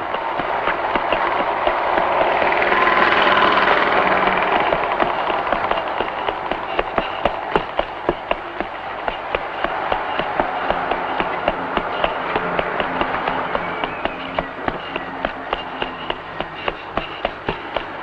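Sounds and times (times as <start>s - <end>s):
child running footsteps on pavement: 0.0s - 18.0s.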